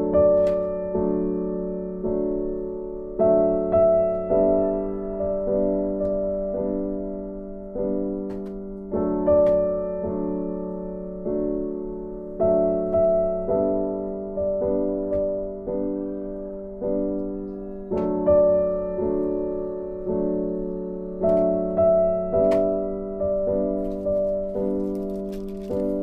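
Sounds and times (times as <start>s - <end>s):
soft piano chords: 0.0s - 26.0s.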